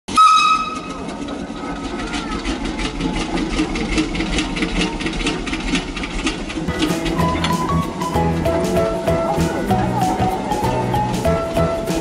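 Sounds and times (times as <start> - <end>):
machinery clattering: 0.1 - 12.0.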